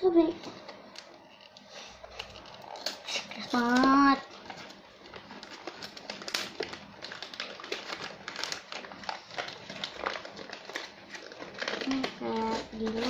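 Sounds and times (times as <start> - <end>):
paper and cardboard rustling: 0.0 - 13.0.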